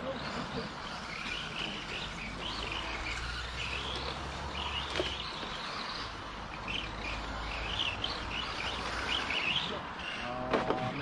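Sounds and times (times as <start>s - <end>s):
birds chirping: 0.0s - 11.0s
low outdoor background: 0.0s - 11.0s.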